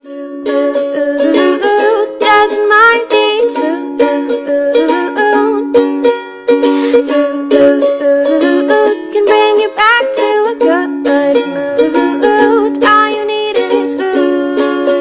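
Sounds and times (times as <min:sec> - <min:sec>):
held chords: 0:00.0 - 0:15.0
plucked string notes: 0:00.0 - 0:15.0.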